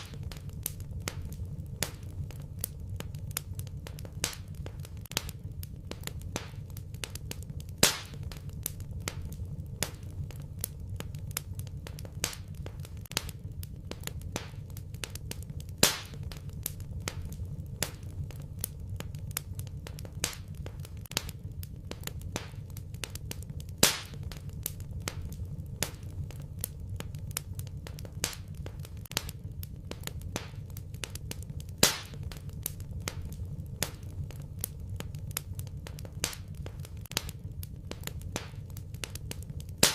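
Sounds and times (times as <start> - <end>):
loud fire pops: 0.0 - 39.9
low fire rumble: 0.0 - 39.9
wood fire crackling: 0.0 - 39.9.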